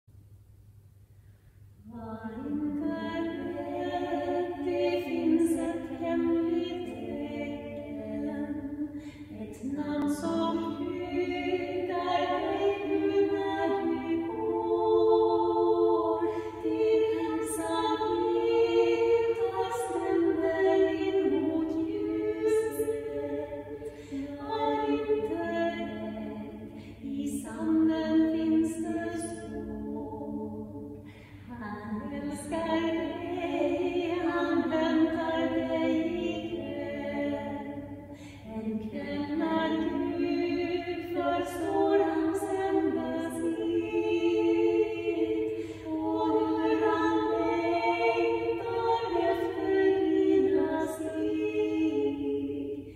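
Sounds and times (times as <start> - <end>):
women singing in harmony: 1.8 - 52.9.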